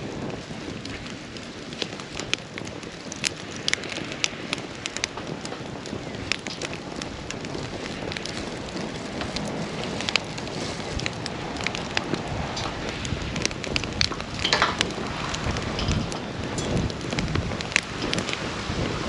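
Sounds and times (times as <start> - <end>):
campfire crackling and popping: 0.0 - 19.0
rush of flame: 0.0 - 19.0
sharp wood snaps: 1.7 - 18.4.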